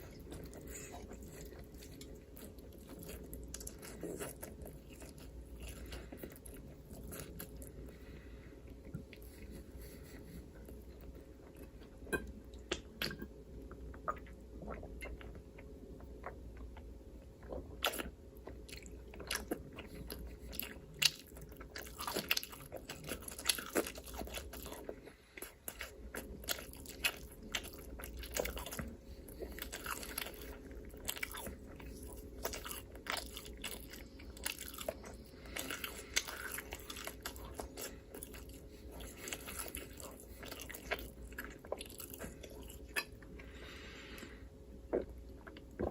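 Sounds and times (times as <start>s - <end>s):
mouth chewing and crunching food: 0.0s - 45.9s.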